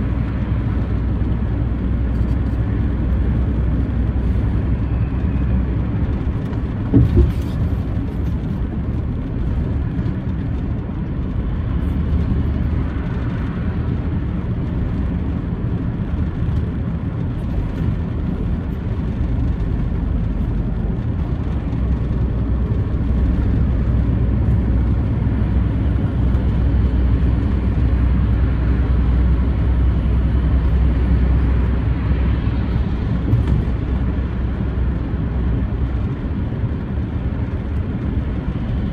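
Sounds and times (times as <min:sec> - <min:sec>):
truck engine and tyre rumble: 0:00.0 - 0:38.9.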